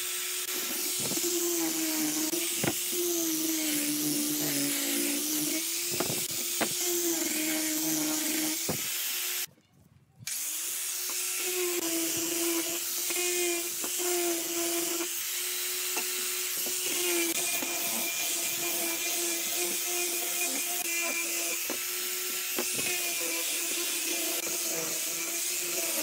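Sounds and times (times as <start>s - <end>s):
angle grinder motor whine: 0.0s - 9.5s, 10.3s - 26.0s.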